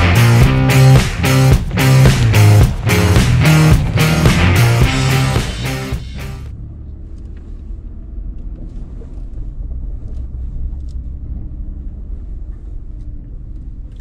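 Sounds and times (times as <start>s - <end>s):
low engine and drivetrain rumble: 0.0s - 14.0s.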